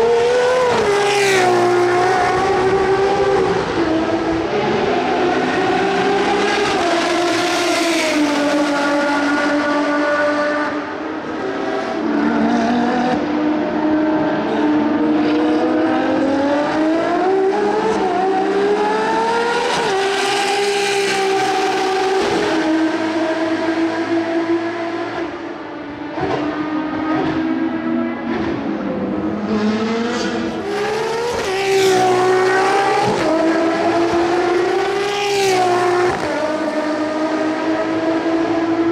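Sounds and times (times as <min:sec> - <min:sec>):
race car engines passing: 0:00.0 - 0:38.9.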